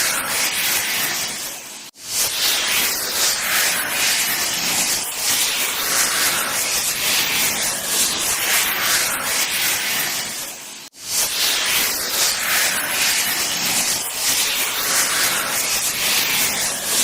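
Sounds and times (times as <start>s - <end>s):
airy hissing swoosh: 0.0s - 17.0s.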